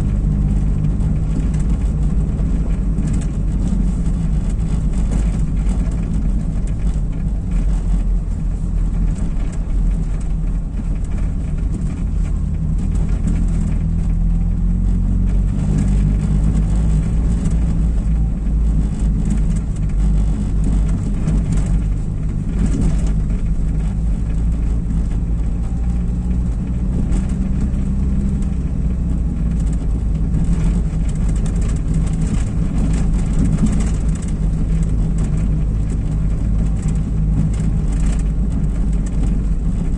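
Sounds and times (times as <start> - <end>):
car engine running: 0.0 - 39.9
tyres rumbling over brick paving: 0.0 - 39.9.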